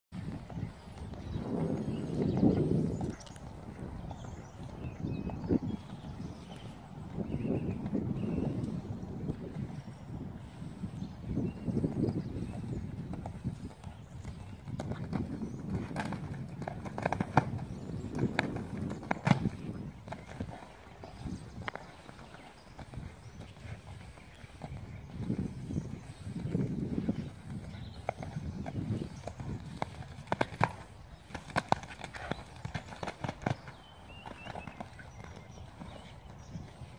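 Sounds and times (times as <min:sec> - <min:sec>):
horse hoofbeats on sand: 0:00.1 - 0:36.9.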